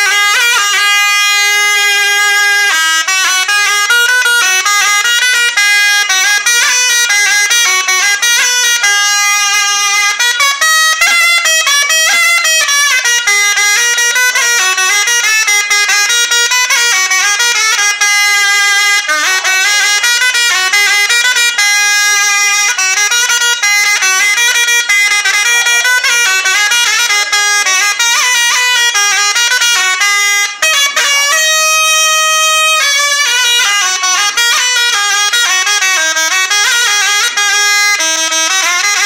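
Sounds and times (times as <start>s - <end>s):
reed pipe melody: 0.0s - 39.0s.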